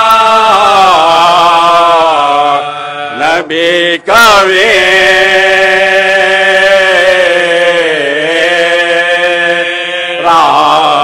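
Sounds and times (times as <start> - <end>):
men chanting unaccompanied: 0.0 - 11.0.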